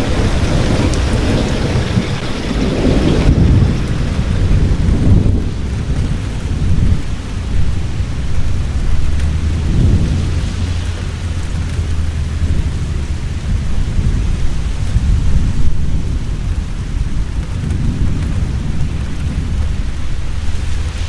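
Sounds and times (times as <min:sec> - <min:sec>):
heavy rain falling: 0:00.0 - 0:21.0
thunder rumble: 0:00.0 - 0:21.0.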